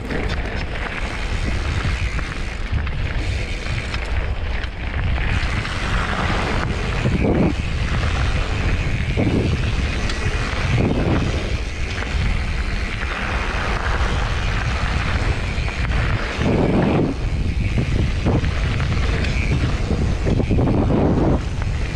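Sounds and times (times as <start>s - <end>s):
bike jolts: 0.0s - 21.9s
bike tyres crunching on gravel: 0.0s - 21.9s
wind rumble on microphone: 0.0s - 21.9s.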